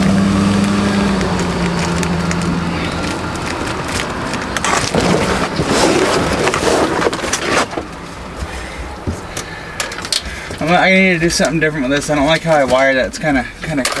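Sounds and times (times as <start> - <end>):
carpet rustling and crackling: 0.0 - 14.0.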